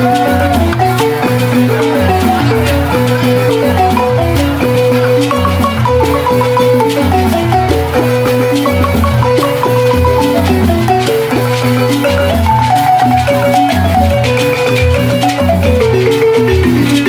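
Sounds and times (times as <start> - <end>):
balafons playing fast melody: 0.0 - 17.0.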